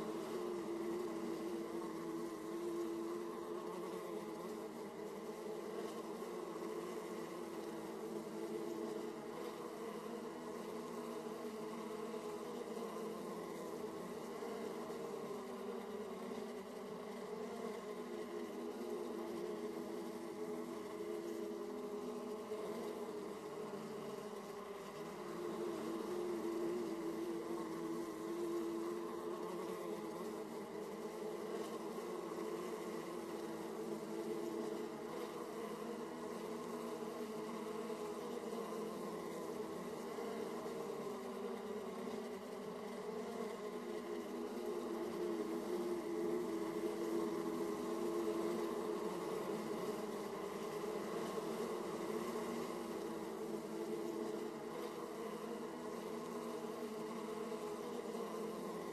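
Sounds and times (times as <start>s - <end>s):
honeybees buzzing: 0.0s - 58.9s.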